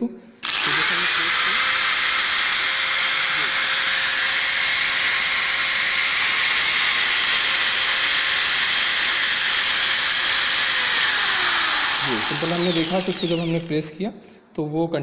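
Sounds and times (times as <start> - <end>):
hammer drill whining: 0.4 - 13.9.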